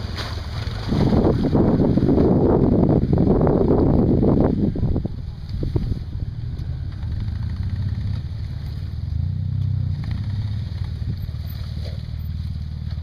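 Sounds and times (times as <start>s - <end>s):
buggy engine at low revs: 0.0s - 13.0s.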